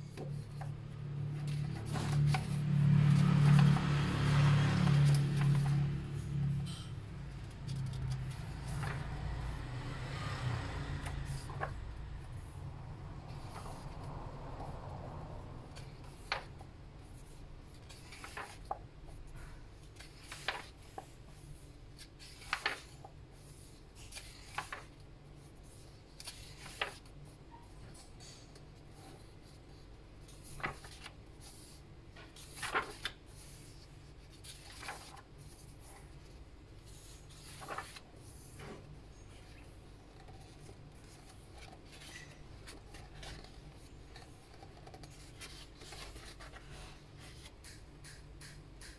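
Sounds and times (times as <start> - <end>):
book pages turning: 0.0 - 48.9.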